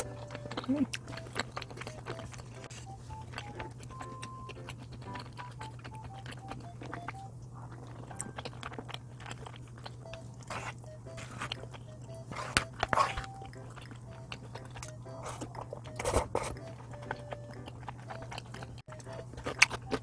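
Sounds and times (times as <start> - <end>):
soft plinking background music: 0.0 - 7.3, 10.9 - 20.0
chewing and biting food: 0.0 - 20.0.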